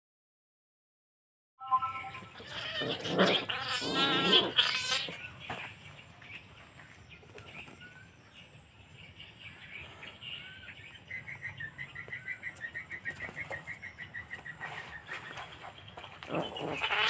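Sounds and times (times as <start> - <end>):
bird chirping: 1.6 - 17.0.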